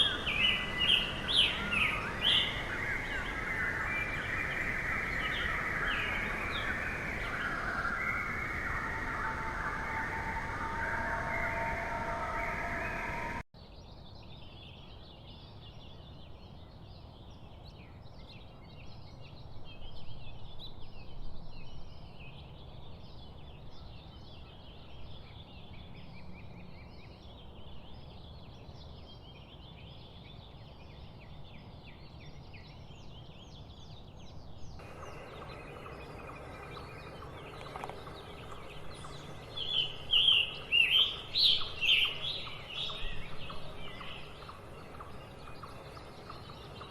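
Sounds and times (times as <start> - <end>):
birds chirping chorus: 0.0 - 20.9, 21.6 - 46.9.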